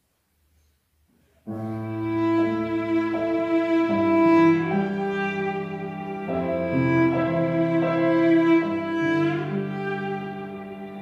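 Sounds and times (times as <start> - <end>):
cello: 1.5 - 11.0
violin: 1.5 - 11.0.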